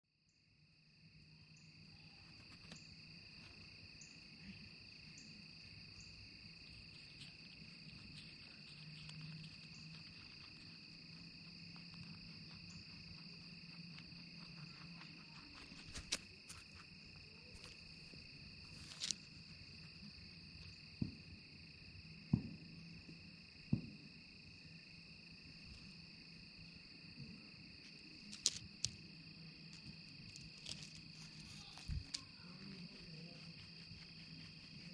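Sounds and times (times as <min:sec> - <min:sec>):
insect chorus trilling: 0:00.3 - 0:34.9.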